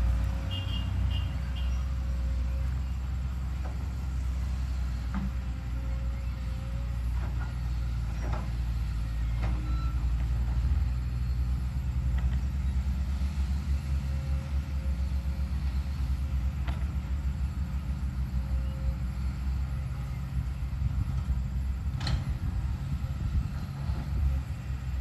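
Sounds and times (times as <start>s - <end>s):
excavator diesel engine rumbling: 0.0s - 25.0s.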